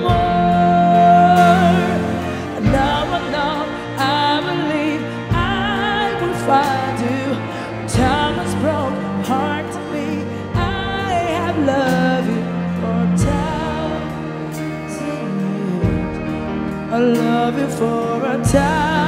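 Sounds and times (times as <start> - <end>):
live band playing slow ballad: 0.0 - 19.0
person singing: 0.0 - 19.0.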